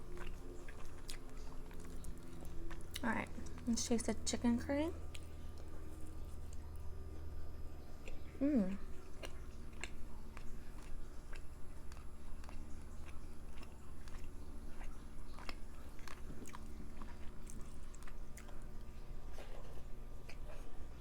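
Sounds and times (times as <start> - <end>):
person chewing food: 0.0 - 3.7, 5.0 - 6.9, 7.8 - 21.0.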